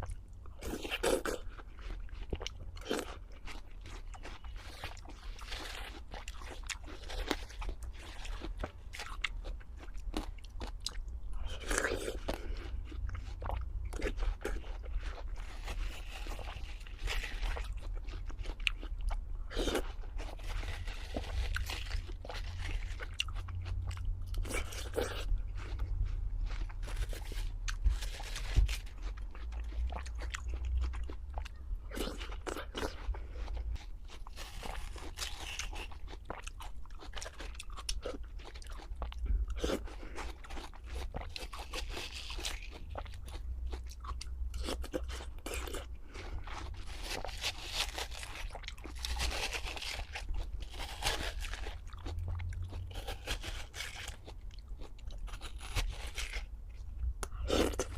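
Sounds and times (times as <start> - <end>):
crunching and chewing crisp food: 0.0 - 57.9.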